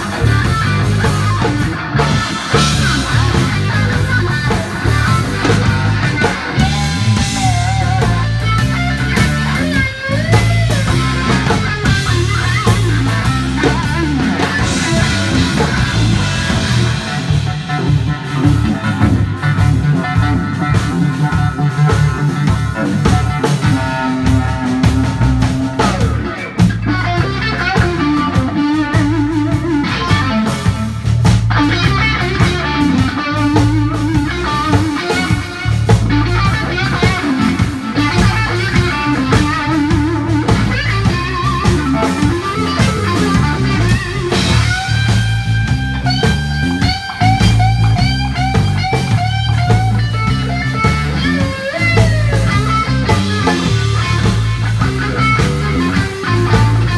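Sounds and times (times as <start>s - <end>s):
bass guitar: 0.0s - 56.9s
drum kit: 0.0s - 56.9s
electric guitar lead: 0.0s - 56.9s.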